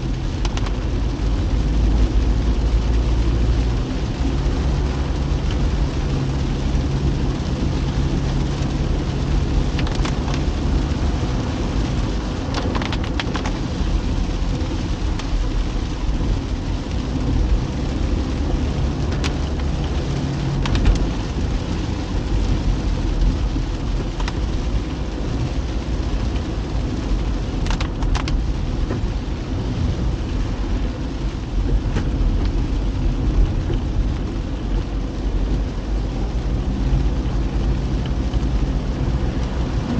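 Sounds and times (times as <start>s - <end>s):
car road and engine rumble: 0.0s - 39.9s
rain hiss: 0.0s - 39.9s.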